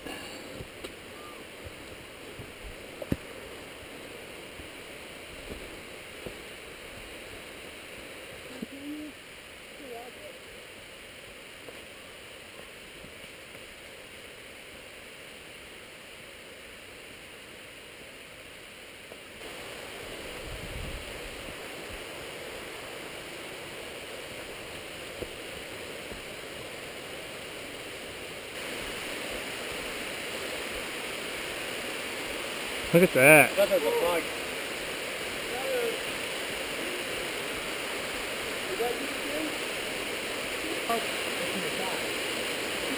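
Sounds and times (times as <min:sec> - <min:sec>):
waterfall rushing: 0:00.0 - 0:15.6, 0:19.4 - 0:42.9.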